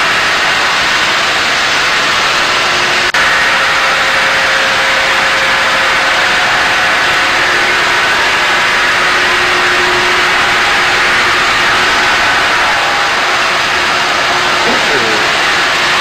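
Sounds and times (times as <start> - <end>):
wire saw machine running: 0.0 - 16.0.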